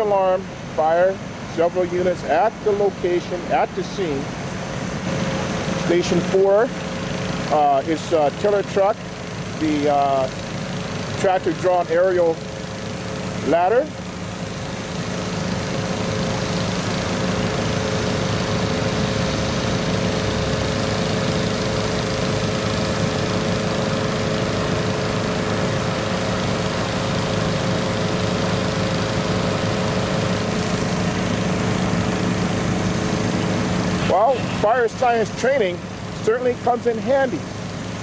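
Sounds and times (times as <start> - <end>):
fire truck engines running: 0.0 - 38.0.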